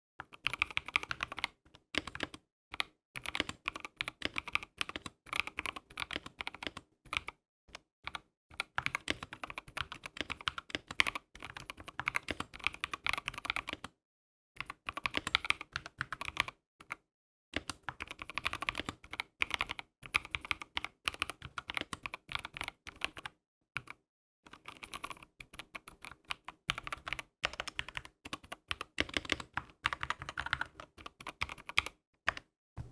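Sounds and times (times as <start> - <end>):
mechanical keyboard typing: 0.2 - 7.4, 8.1 - 13.9, 14.6 - 17.0, 17.6 - 32.9.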